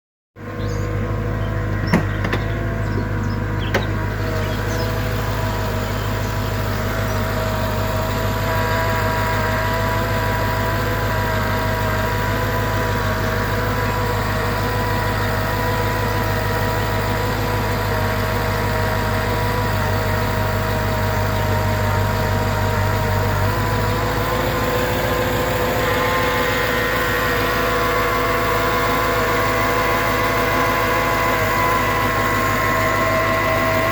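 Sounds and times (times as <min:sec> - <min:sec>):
car engine running: 0:00.4 - 0:33.9
whirring whine: 0:00.4 - 0:33.9.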